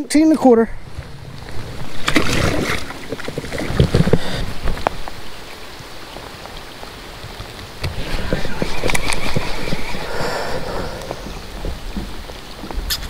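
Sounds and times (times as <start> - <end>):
water splashing against kayak: 0.9 - 13.0.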